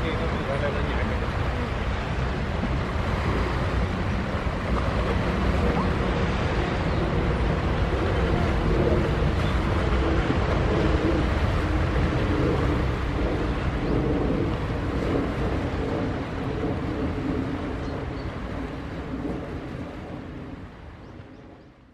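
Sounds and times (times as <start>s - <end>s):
boat engines droning: 0.0s - 21.9s
wind rumble on microphone: 0.0s - 21.9s.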